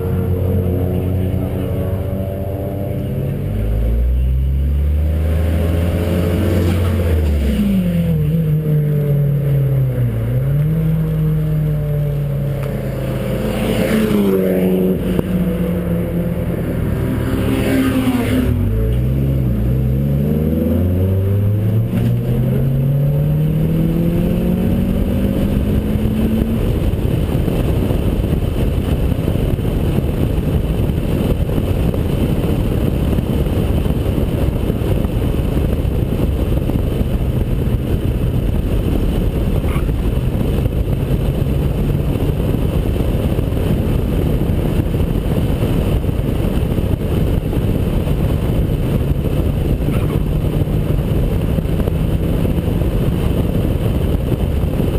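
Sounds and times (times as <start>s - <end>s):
car engine accelerating: 0.0s - 54.9s
wind rushing over camera: 0.0s - 54.9s.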